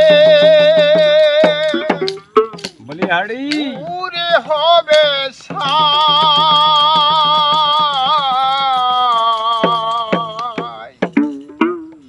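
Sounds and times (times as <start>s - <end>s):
man singing long note: 0.0s - 2.2s, 3.6s - 11.0s
hand percussion ticking: 0.0s - 12.0s.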